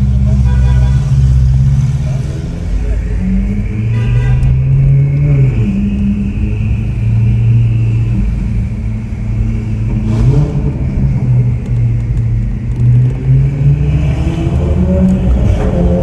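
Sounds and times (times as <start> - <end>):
sports car engine at low revs: 0.0 - 16.0.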